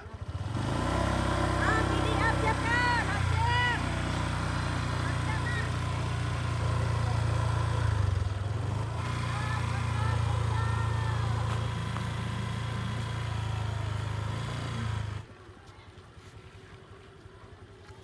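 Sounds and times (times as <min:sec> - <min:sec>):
motor scooter engine rumbling: 0:00.0 - 0:18.0.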